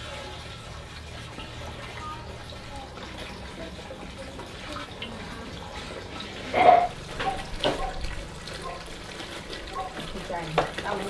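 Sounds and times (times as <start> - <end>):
kitchen water running and splashing: 0.0 - 11.0
low background hum: 0.0 - 11.0.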